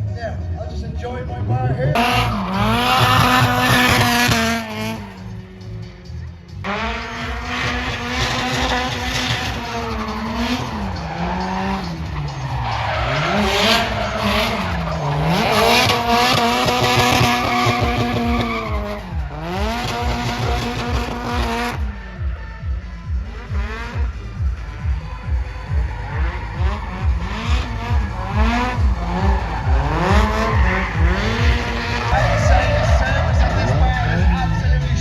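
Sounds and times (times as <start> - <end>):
car engine at high revs: 1.6 - 35.0
tyres squealing: 2.0 - 6.0, 6.6 - 23.2, 24.0 - 34.6.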